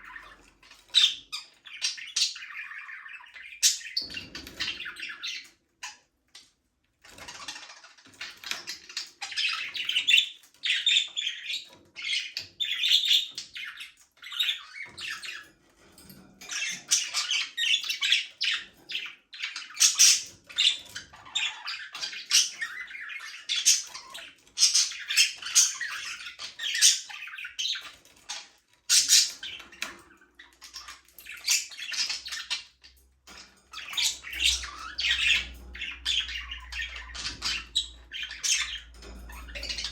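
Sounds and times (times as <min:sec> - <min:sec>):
budgerigars chattering and chirping: 0:00.0 - 0:06.1, 0:07.1 - 0:39.9.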